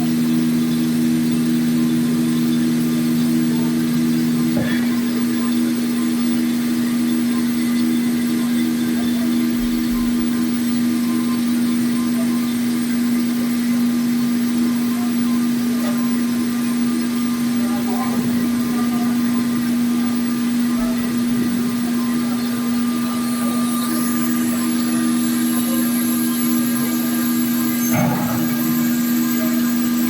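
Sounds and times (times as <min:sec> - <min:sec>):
sawing machine motor hum: 0:00.0 - 0:30.0.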